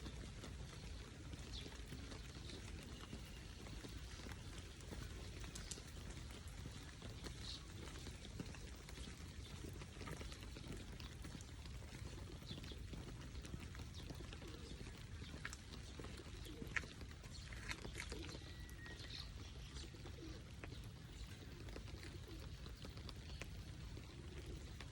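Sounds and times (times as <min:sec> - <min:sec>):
bird calls: 0:00.0 - 0:24.9
rain drips: 0:00.0 - 0:24.9.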